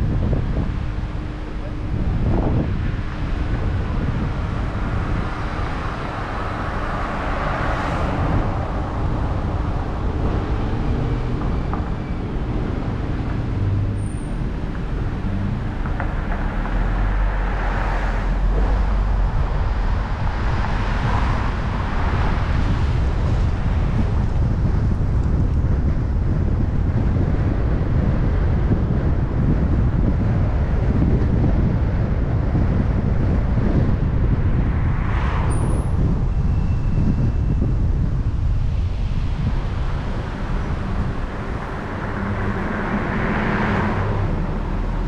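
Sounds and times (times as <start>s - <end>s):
car engine and tyres rumbling: 0.0s - 45.0s.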